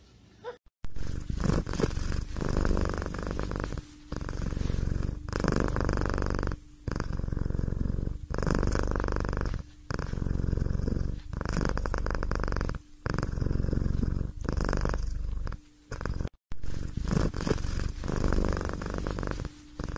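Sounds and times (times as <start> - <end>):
cat purring: 0.4 - 19.9.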